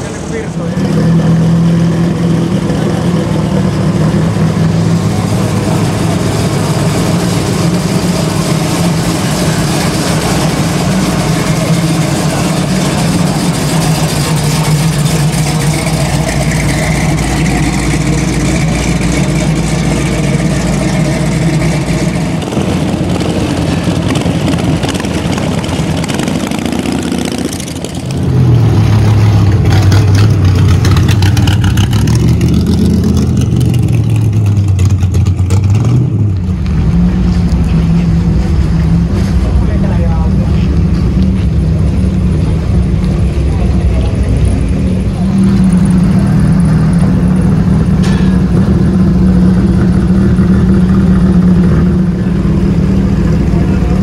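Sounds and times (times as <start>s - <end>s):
car engines rumbling: 0.0s - 54.0s
deeper car engine: 0.0s - 54.0s.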